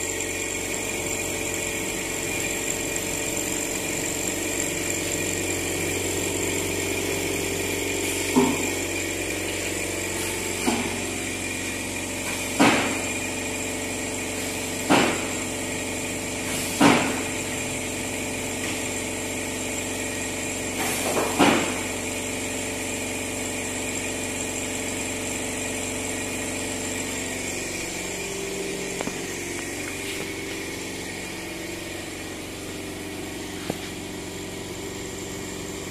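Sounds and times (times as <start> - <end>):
low machine hum: 0.0 - 22.1, 23.6 - 35.9
router spindle high whine: 0.0 - 35.9.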